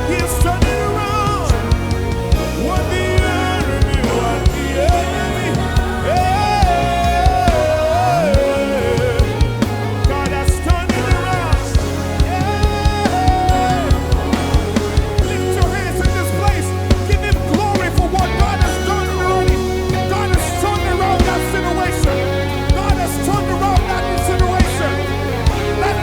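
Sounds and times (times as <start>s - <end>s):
drum kit beat: 0.0s - 26.0s
worship band playing gospel song: 0.0s - 26.0s.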